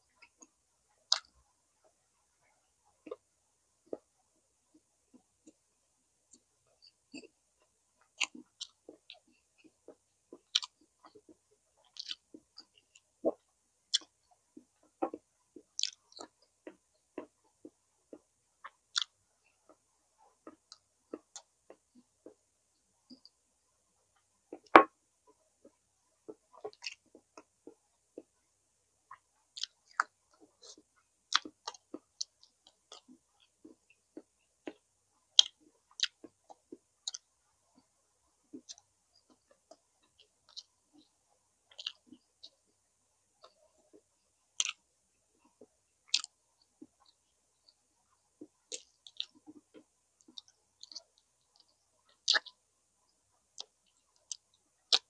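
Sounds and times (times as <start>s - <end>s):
person chewing food: 0.0s - 1.4s, 2.3s - 5.7s, 6.3s - 23.5s, 24.2s - 55.0s.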